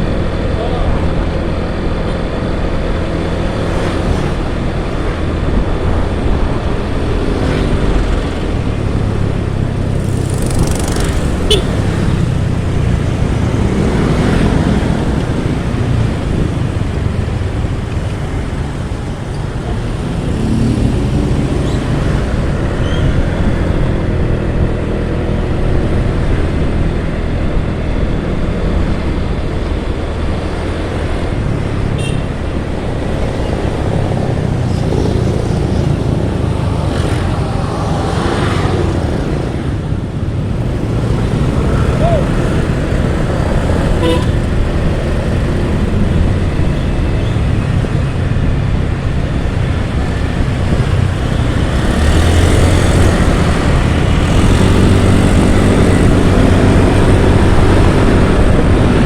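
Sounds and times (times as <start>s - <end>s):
motorcycle engine: 0.0s - 59.0s
road noise: 0.0s - 59.0s.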